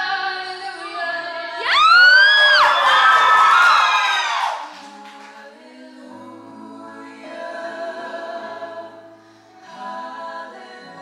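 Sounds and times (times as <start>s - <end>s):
people singing in harmony: 0.0s - 2.9s, 4.5s - 11.0s.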